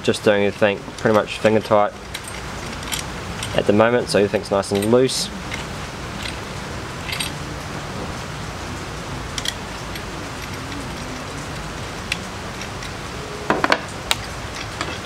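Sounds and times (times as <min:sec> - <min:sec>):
background hiss: 0:00.0 - 0:15.0
metal brackets clicking: 0:00.6 - 0:07.7, 0:09.3 - 0:15.0.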